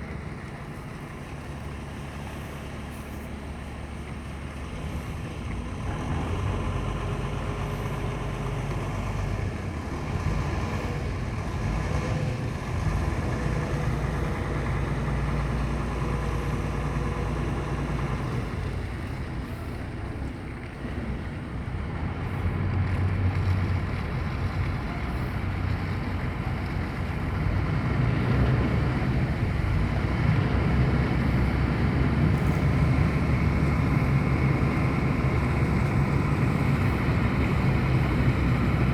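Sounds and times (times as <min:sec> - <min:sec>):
boat engine humming: 0:00.0 - 0:38.9.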